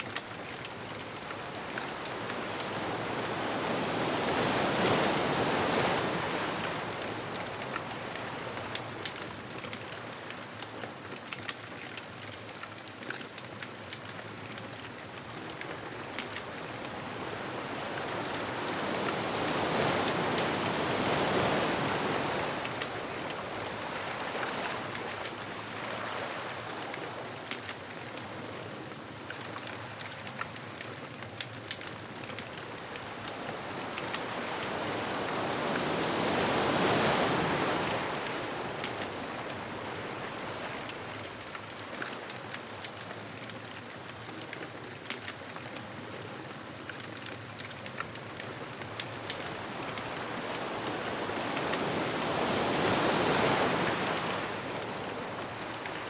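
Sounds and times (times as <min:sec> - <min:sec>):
bonfire crackling: 0:00.0 - 0:56.0
ocean waves washing onto beach: 0:00.0 - 0:56.0.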